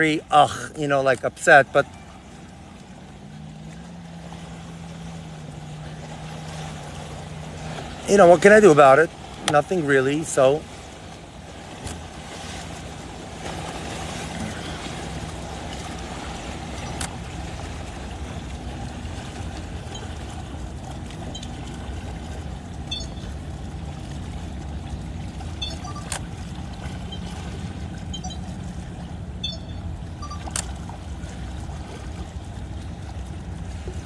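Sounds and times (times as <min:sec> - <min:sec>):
waves lapping against rocks: 0:00.0 - 0:34.0.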